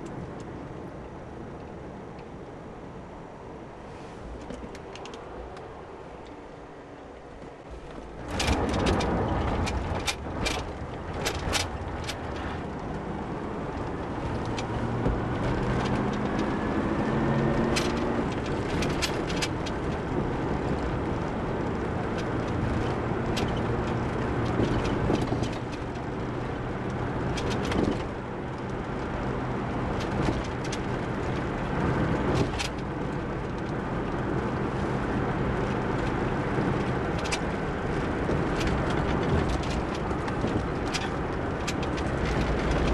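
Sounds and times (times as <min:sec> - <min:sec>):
car engine and tyre noise: 0:00.0 - 0:42.9.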